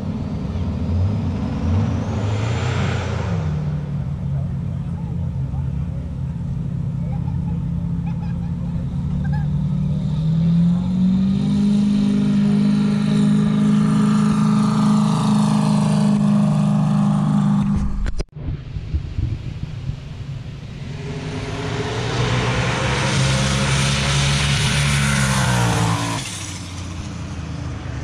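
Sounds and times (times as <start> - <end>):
quieter engine running: 0.0 - 17.9, 18.6 - 28.0
drag car engine at full throttle: 0.0 - 18.1, 19.0 - 28.0.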